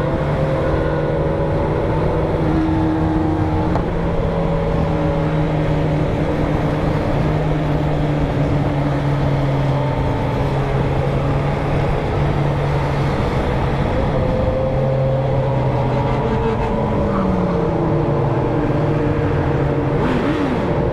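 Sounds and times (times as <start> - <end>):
motorcycle engine cruising: 0.0 - 20.9
road noise rushing: 0.0 - 20.9.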